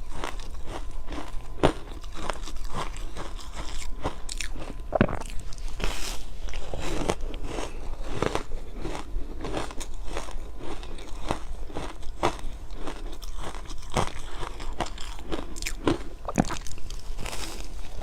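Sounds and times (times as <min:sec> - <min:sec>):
person crunching ice: 0:00.1 - 0:18.0.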